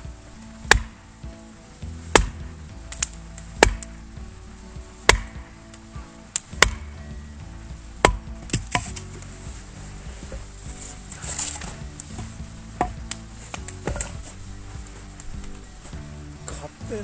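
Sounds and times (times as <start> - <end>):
axe chopping firewood: 0.1 - 17.0.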